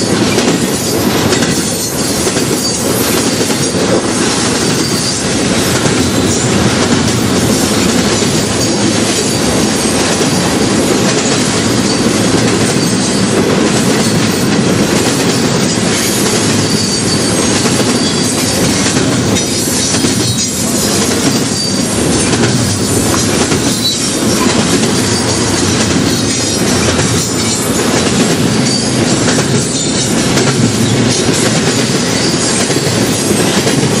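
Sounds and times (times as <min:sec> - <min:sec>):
train wheels on rails: 0:00.0 - 0:34.0.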